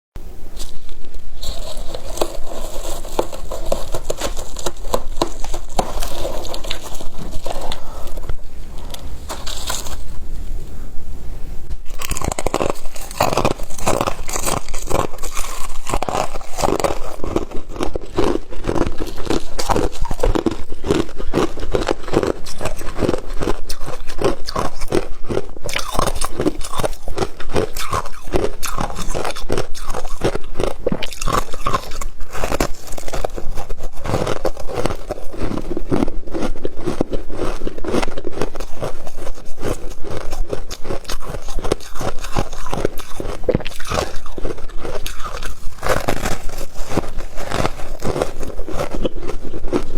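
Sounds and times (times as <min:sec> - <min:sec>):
crunching of chewed frost: 0:00.5 - 0:10.9, 0:11.7 - 0:49.9.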